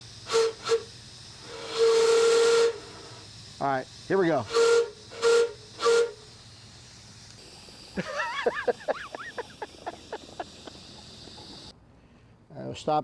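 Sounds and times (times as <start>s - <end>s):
steam hissing: 0.0s - 11.7s.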